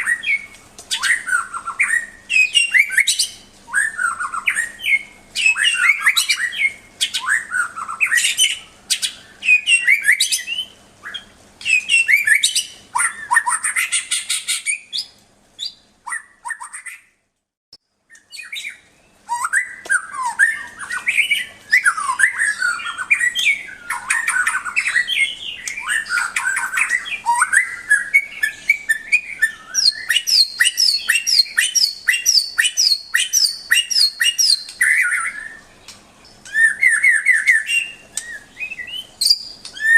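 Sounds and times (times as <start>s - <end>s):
songbird singing whistled phrases: 0.0s - 17.2s, 18.1s - 39.9s.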